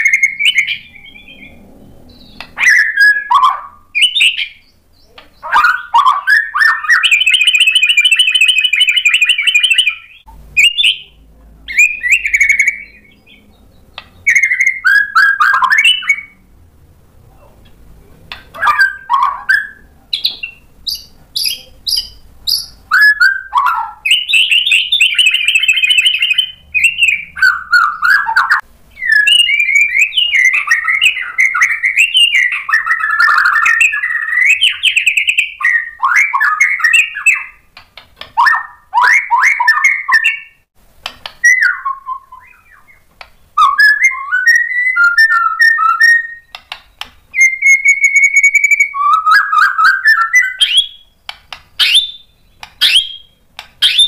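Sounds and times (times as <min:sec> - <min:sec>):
songbird singing: 0:00.0 - 0:16.5, 0:17.4 - 0:54.0.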